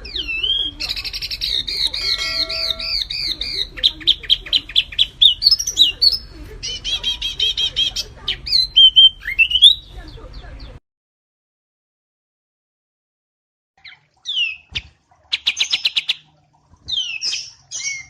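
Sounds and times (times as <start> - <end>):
songbirds chirping and whistling: 0.0 - 10.8, 13.8 - 18.0.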